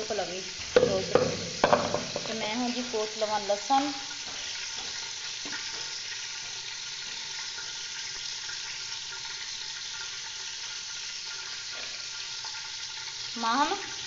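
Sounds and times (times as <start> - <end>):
onions sizzling in pot: 0.0 - 14.0.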